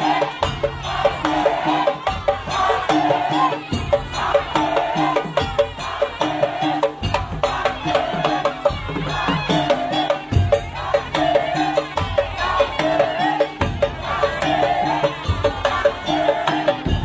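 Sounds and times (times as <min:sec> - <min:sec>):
drums: 0:00.0 - 0:17.0
pitched percussion strikes: 0:00.0 - 0:17.0.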